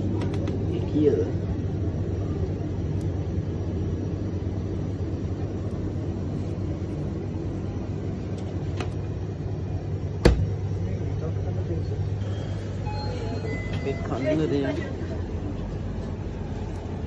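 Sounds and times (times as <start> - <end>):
refrigeration fans humming: 0.0 - 17.0.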